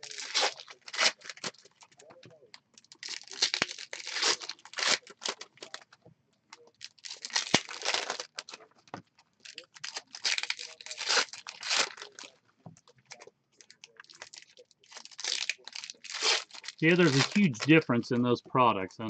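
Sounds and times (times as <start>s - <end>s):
plastic wrappers crinkling and tearing: 0.0s - 17.7s.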